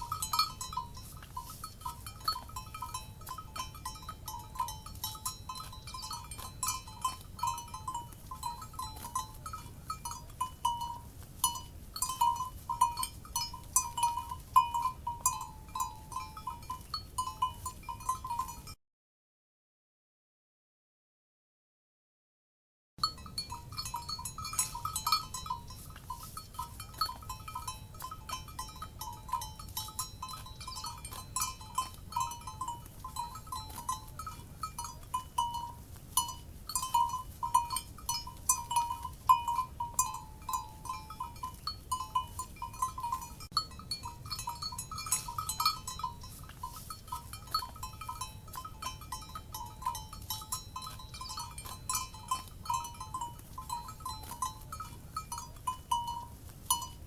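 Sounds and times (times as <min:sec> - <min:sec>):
cowbells clanking: 0:00.0 - 0:18.7, 0:23.0 - 0:57.0.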